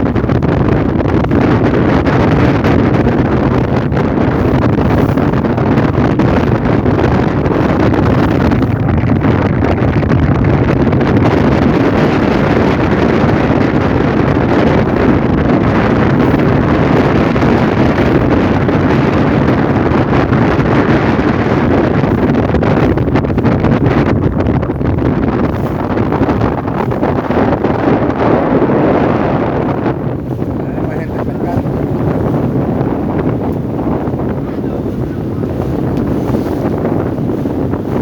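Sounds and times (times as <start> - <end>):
motorboat engine running: 0.0 - 38.0
wind buffeting microphone: 0.0 - 38.0.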